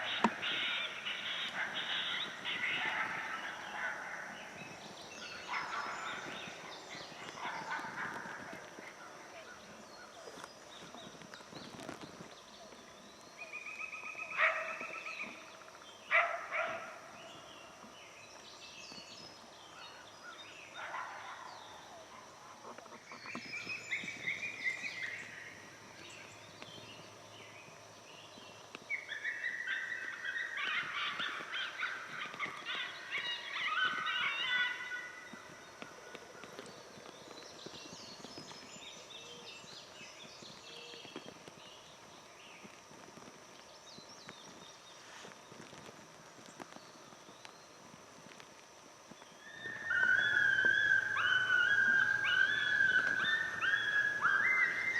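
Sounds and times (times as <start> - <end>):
coyotes howling and yipping: 0.0 - 12.0, 12.6 - 17.9, 19.3 - 42.0, 49.1 - 54.9
faint insect drone: 0.0 - 54.9.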